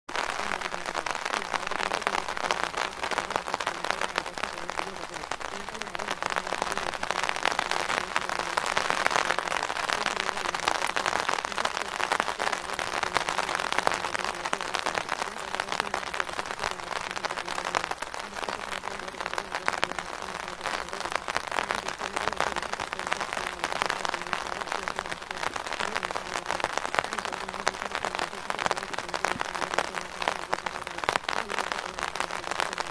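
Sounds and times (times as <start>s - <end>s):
steady rain patter: 0.0s - 32.9s.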